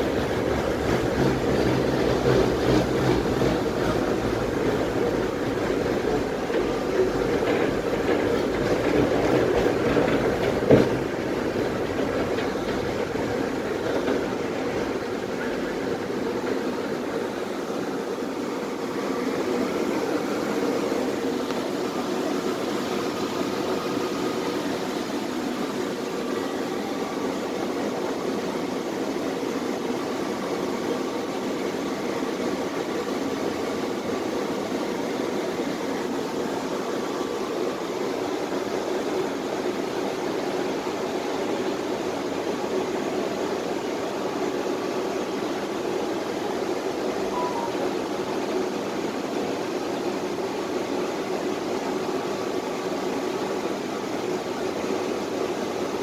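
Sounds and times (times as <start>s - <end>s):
tram rumbling: 0.0s - 56.0s.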